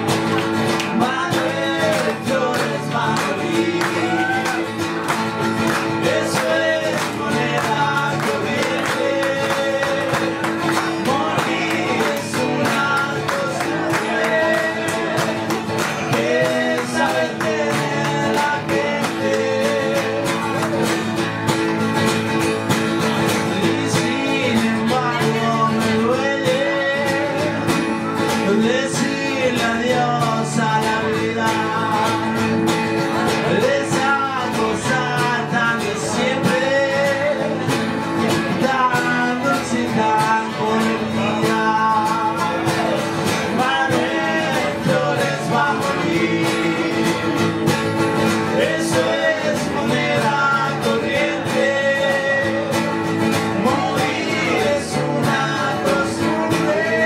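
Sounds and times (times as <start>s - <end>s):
acoustic guitars playing: 0.0s - 57.0s
man singing: 0.0s - 57.0s.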